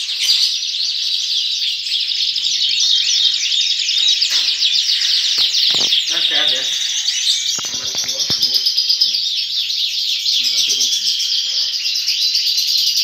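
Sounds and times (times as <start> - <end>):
canaries chirping and singing: 0.0 - 13.0.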